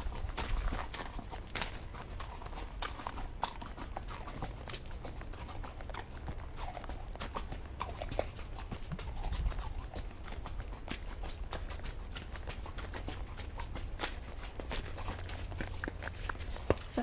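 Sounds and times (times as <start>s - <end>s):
horse hooves clopping: 0.0s - 17.0s
steady low rumble: 0.0s - 17.0s.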